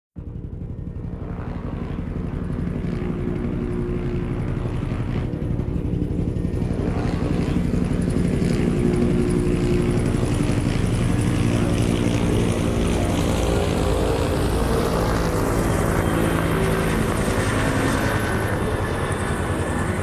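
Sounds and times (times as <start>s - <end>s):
helicopter engine whine: 0.2s - 20.0s
helicopter rotor chopping: 0.2s - 20.0s.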